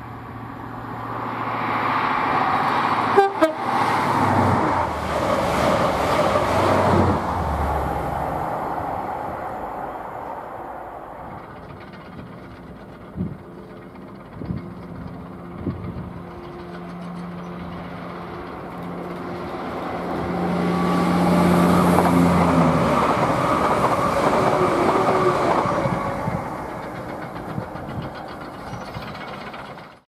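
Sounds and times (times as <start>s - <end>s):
diesel train engine drone: 0.0s - 30.0s
train wheels rushing on rails: 0.4s - 30.0s.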